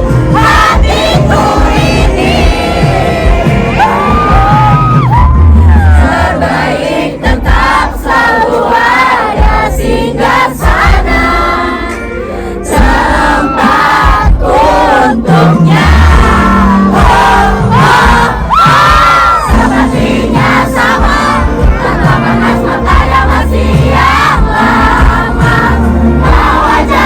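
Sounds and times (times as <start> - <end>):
crowd singing along: 0.0 - 27.0
loud live concert music: 0.0 - 27.0.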